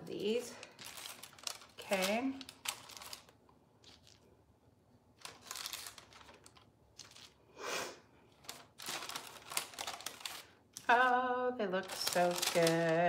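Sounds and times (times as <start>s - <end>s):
parchment paper rustling: 0.0s - 4.4s, 5.1s - 7.5s, 8.2s - 13.0s.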